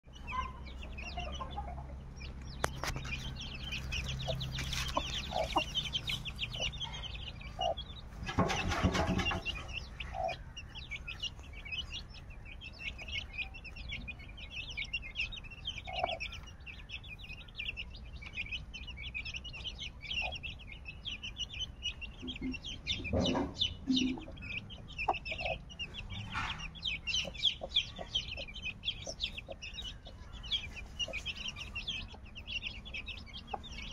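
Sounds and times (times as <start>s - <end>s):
chicks peeping: 0.0s - 33.9s
hen clucking: 0.1s - 33.9s.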